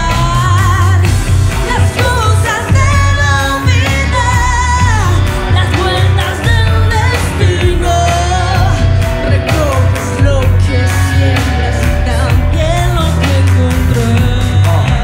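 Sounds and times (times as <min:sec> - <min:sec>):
heavy bass-driven beat: 0:00.0 - 0:15.0
woman singing into a microphone: 0:00.0 - 0:15.0.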